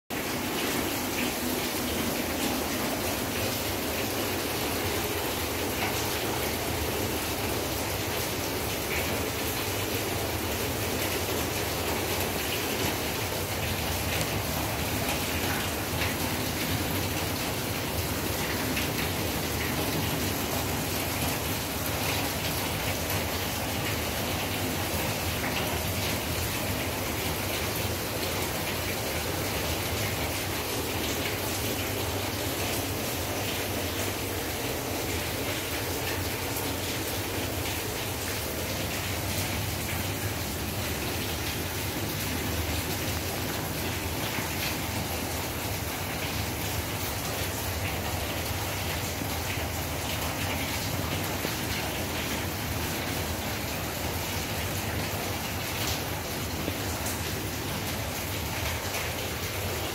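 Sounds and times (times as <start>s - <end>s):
rain falling steadily: 0.1s - 59.9s.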